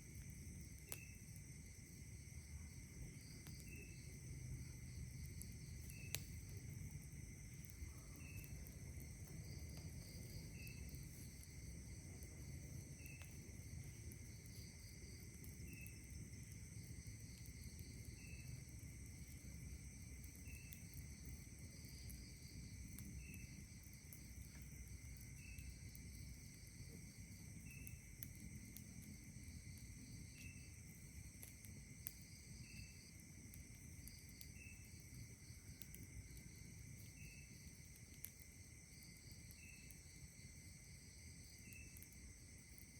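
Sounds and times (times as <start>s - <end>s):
low outdoor hum: 0.0s - 42.9s
night insects trilling: 0.0s - 42.9s.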